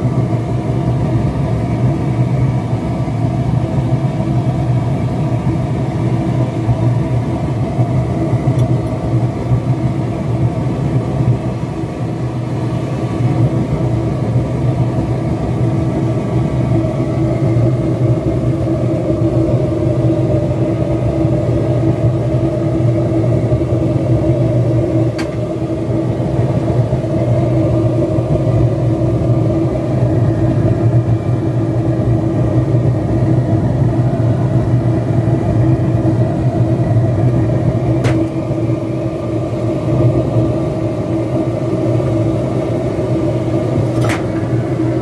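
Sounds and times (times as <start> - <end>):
gas forge burner rumbling: 0.0 - 45.0.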